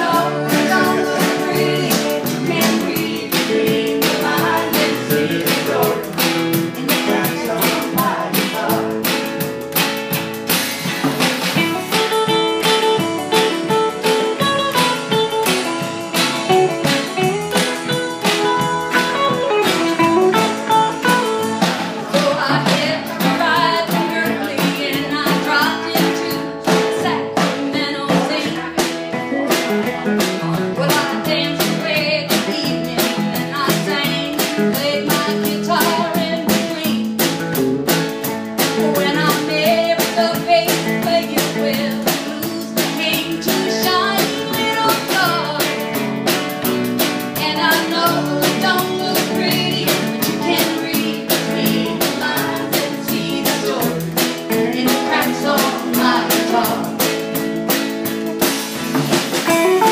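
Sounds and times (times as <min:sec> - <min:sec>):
drum kit beat: 0:00.0 - 0:59.9
electric lead guitar: 0:00.0 - 0:59.9
strummed acoustic guitar: 0:00.0 - 0:59.9
upright bass: 0:00.0 - 0:59.9.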